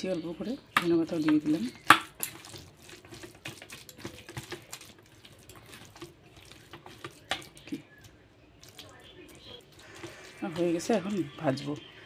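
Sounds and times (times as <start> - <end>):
hand squelching wet batter: 0.0 - 12.0.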